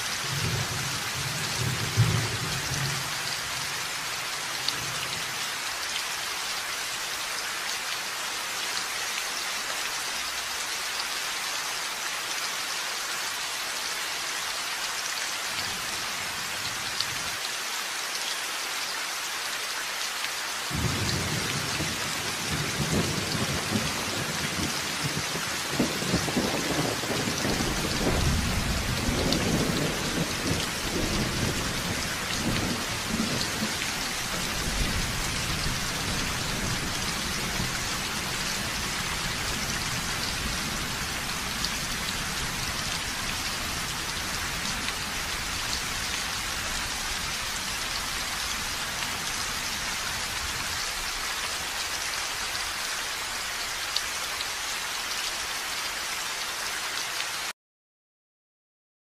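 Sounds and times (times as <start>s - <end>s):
steady rain falling: 0.0s - 57.5s.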